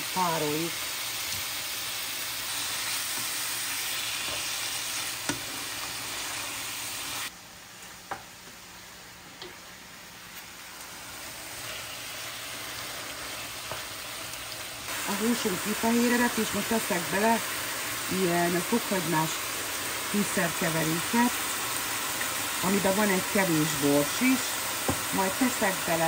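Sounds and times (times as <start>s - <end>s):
chicken sizzling in oil: 0.0s - 7.3s, 8.0s - 26.0s.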